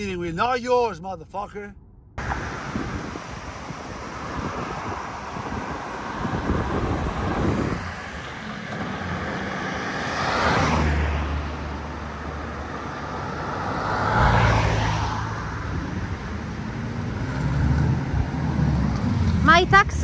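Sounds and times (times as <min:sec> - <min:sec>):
car tyre noise: 0:02.2 - 0:19.6.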